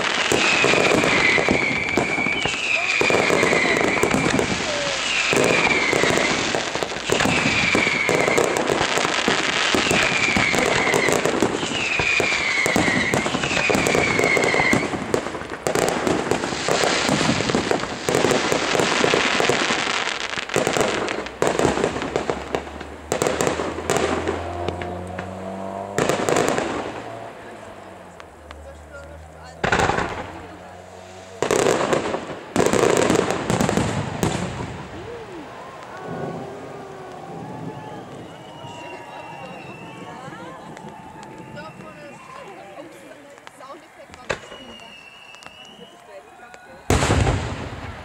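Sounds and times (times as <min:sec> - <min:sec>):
falling firework whistle: 0:00.0 - 0:27.6, 0:29.6 - 0:48.0
firework bursts and crackling: 0:00.0 - 0:48.0.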